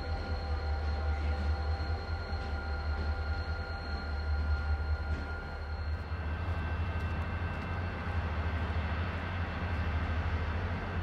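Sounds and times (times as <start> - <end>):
high-pitched whines: 0.0 - 9.8
locomotive engine running: 0.0 - 11.0.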